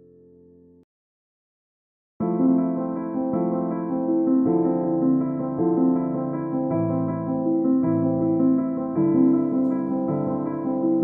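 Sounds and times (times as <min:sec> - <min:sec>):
piano-like keyboard melody: 0:00.0 - 0:00.9, 0:02.2 - 0:11.0.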